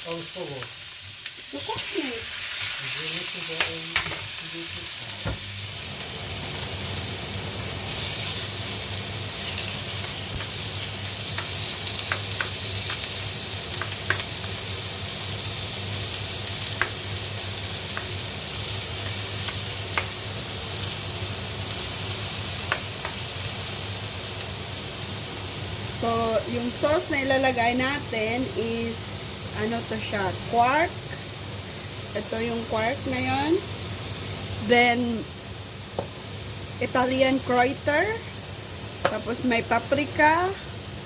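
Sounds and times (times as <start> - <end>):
chicken sizzling in a pan: 0.0 - 41.0.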